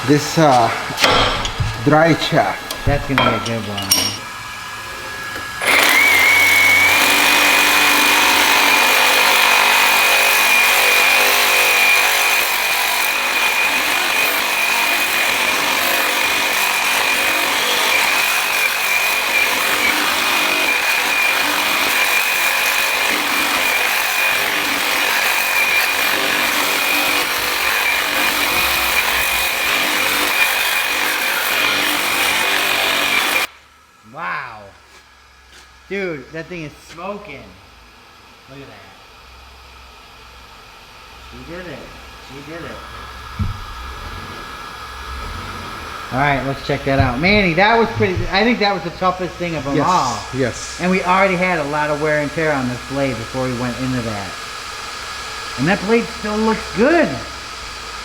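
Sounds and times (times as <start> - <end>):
reciprocating saw cutting steel: 0.0 - 33.7, 38.2 - 58.0.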